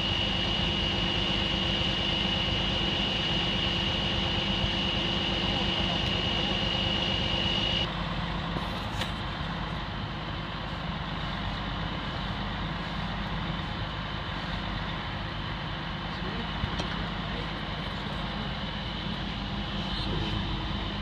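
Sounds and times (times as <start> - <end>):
diesel truck engine running: 0.0 - 21.0
high steady whine: 0.0 - 21.0.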